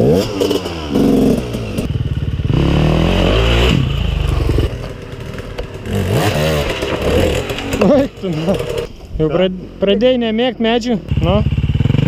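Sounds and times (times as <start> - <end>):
dirt bike engine revving: 0.0 - 8.9, 11.1 - 12.0.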